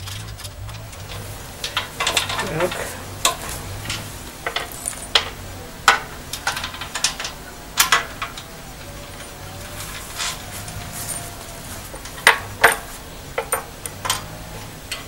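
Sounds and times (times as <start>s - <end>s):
metal parts clinking: 0.0s - 15.0s.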